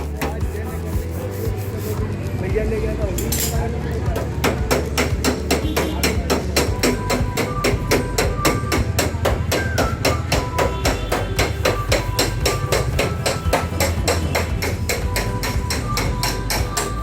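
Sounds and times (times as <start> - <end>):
hammer blows on sheet metal: 0.0 - 2.0, 4.2 - 17.0.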